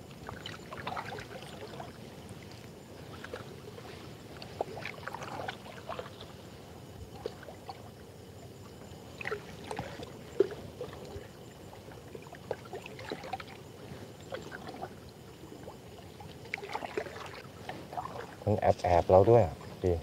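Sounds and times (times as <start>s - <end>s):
water lapping around boat: 0.0s - 20.0s.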